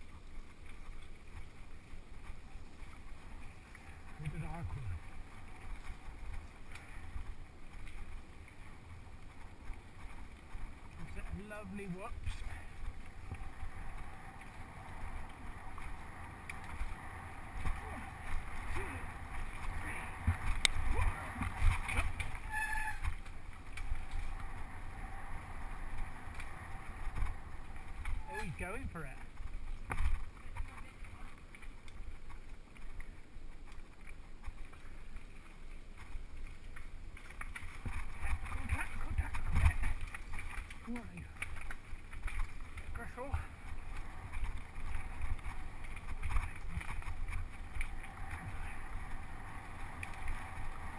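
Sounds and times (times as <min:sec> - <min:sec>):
tyres rolling over dirt: 0:00.0 - 0:50.9
wind rumbling on microphone: 0:00.0 - 0:50.9.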